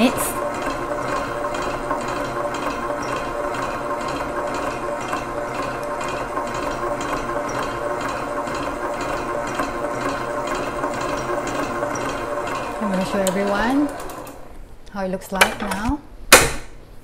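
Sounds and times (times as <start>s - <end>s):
stand mixer running: 0.0s - 14.6s.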